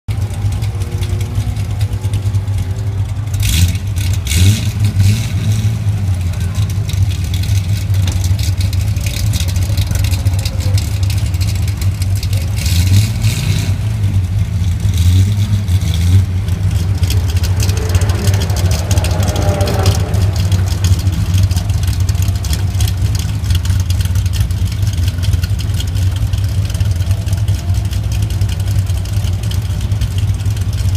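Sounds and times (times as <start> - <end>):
engine droning: 0.1 - 30.9.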